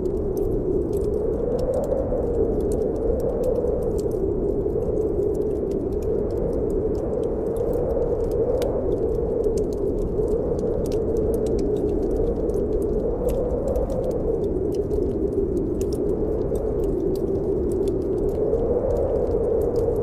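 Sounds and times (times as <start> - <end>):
snowstorm wind blowing: 0.0 - 20.0
wood fire crackling: 0.0 - 20.0.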